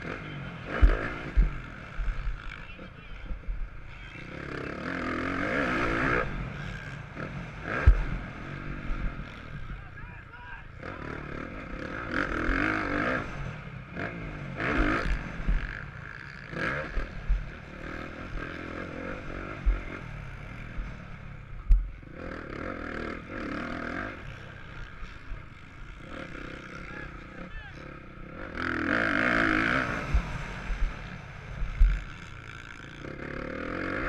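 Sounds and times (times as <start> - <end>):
motocross bike engine revving: 0.0 - 10.0, 10.7 - 34.0.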